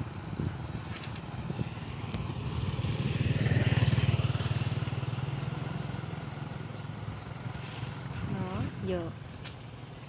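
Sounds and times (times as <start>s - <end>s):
passing vehicle engine drone: 0.0s - 10.0s.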